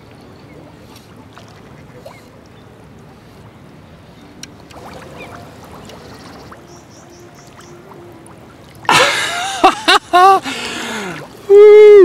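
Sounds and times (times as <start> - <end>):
water sloshing and splashing: 0.0 - 3.6, 4.4 - 10.0, 10.7 - 11.5.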